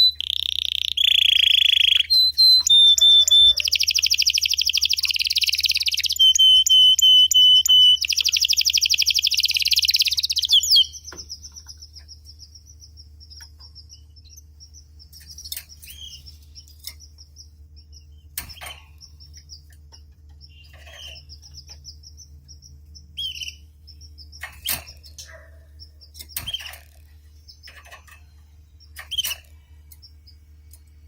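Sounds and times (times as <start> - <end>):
canaries chirping and trilling: 0.0 - 30.8
steady low hum: 0.0 - 31.0.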